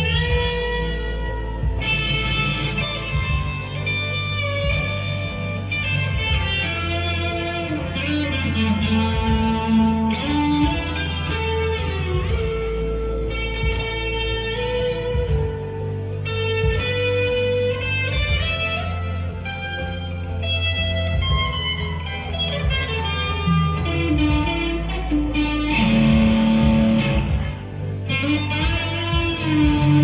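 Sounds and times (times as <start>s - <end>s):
backing track bass and drums: 0.0s - 30.0s
overdriven electric guitar lead: 0.0s - 30.0s.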